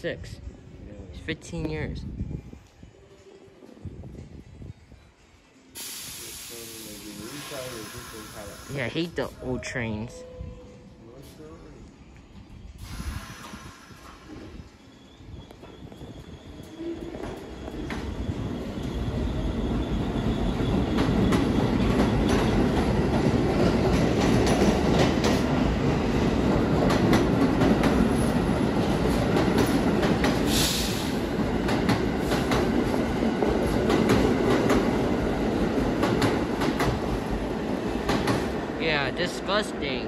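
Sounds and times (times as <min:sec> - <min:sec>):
subway train rumble: 0:00.0 - 0:40.0.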